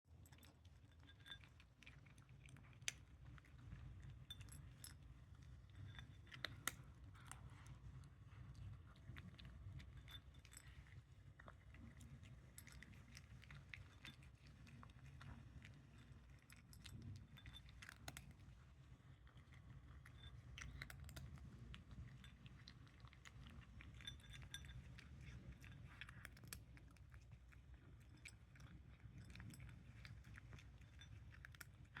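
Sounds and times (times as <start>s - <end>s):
cat crunching dry kibble: 0.1s - 32.0s
low room hum: 0.1s - 32.0s.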